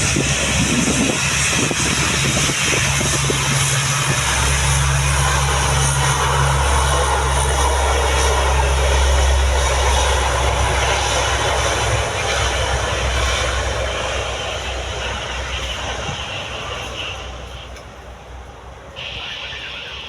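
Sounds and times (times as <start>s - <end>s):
turboprop aircraft engines roaring: 0.0s - 20.0s.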